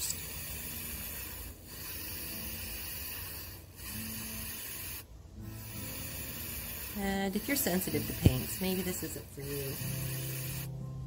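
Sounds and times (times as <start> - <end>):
spray paint can hissing: 0.0 - 10.8.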